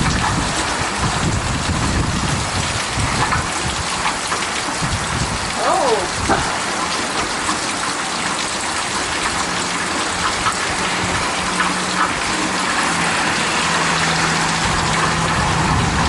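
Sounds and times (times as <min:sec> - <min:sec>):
heavy rain falling: 0:00.0 - 0:16.0
water gushing: 0:00.0 - 0:16.0.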